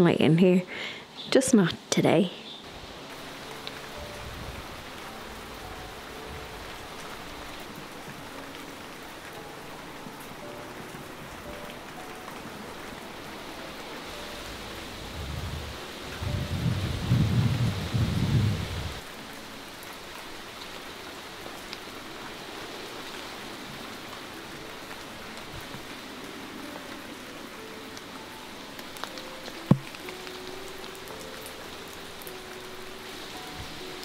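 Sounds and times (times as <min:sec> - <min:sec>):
rain falling on plants: 0:02.2 - 0:34.0.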